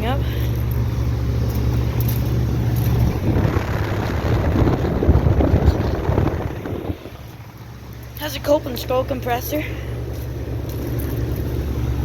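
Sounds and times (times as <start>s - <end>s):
air conditioner compressor humming: 0.0s - 12.0s
fluttering noisy rumble: 0.0s - 12.0s.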